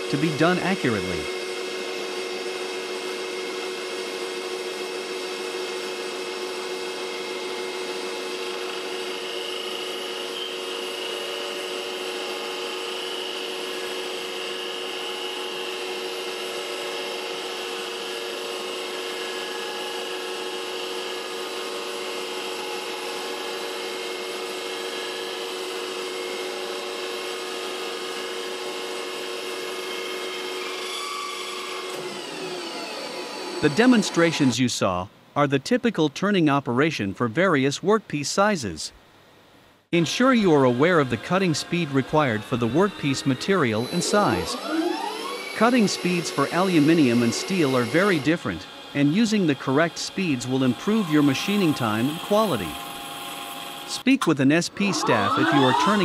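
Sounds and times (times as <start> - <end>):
lathe cutting whine: 0.0 - 34.5, 40.0 - 54.0, 54.7 - 56.0
metal lathe humming: 0.0 - 34.5, 40.0 - 54.0, 54.7 - 56.0.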